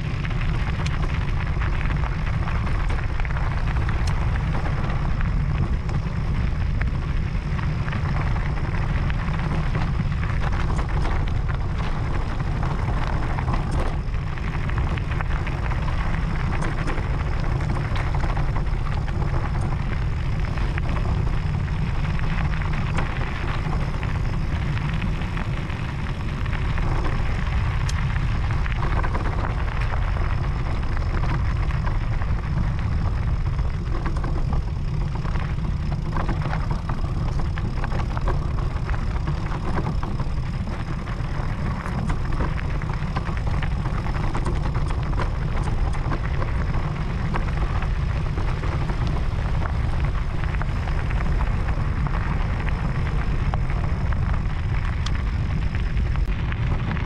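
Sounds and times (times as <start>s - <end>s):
tyres crunching on gravel: 0.0s - 57.0s
wind buffeting microphone: 0.0s - 57.0s.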